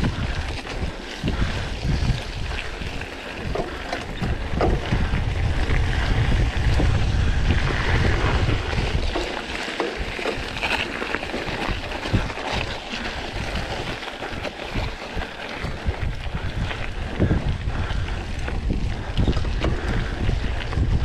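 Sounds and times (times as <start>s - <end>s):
faint crackles and rustles: 0.0s - 21.0s
wind buffeting microphone: 0.0s - 21.0s.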